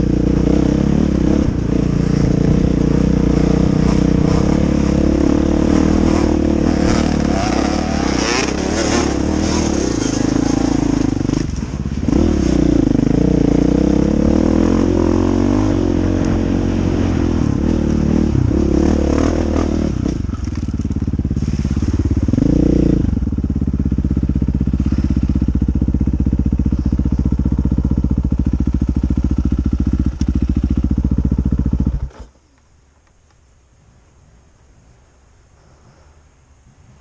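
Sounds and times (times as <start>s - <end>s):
dirt bike engine revving: 0.0s - 32.3s.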